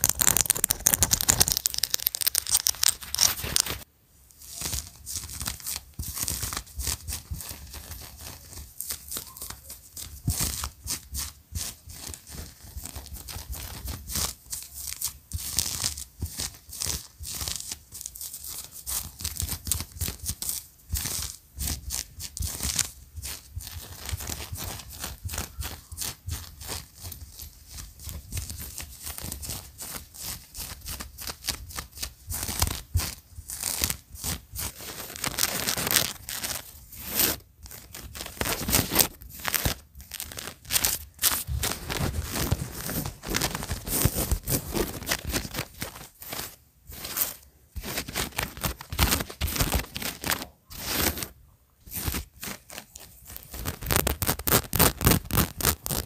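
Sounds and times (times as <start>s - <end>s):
fingers scratching fabric: 4.5s - 56.0s.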